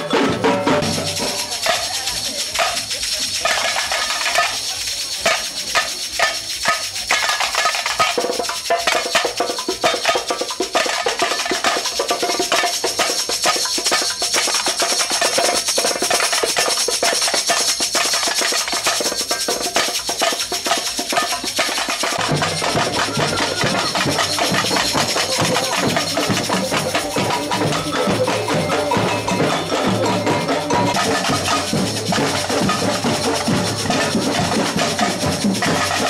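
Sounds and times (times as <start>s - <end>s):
deep drum beats: 0.0s - 36.0s
samba percussion band: 0.0s - 36.0s
shakers and tambourines: 0.0s - 36.0s.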